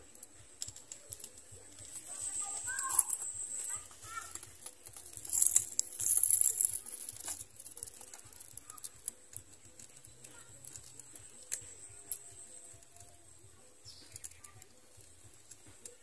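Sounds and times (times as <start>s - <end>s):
dry grass rustling and crackling: 0.0s - 16.0s.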